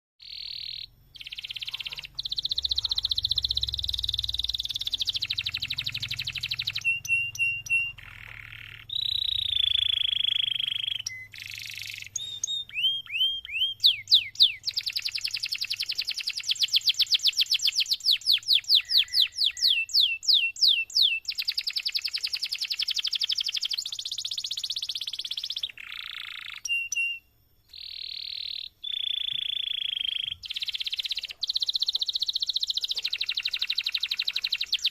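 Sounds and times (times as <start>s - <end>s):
canary singing: 0.2s - 34.9s.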